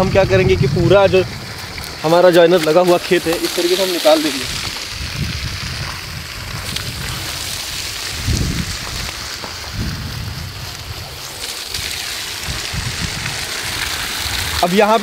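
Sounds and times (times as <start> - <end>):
wind buffeting microphone: 0.0 - 14.6
water jetting steady hiss: 0.0 - 15.0.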